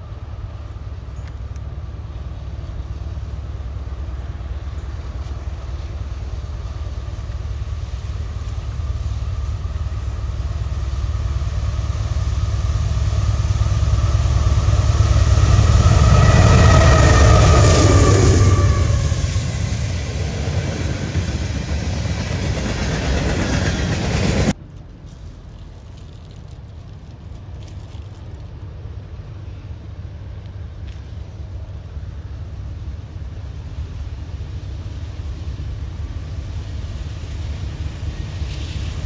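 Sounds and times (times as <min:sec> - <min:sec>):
diesel locomotives passing: 0:00.0 - 0:39.0
train rolling: 0:00.0 - 0:39.0.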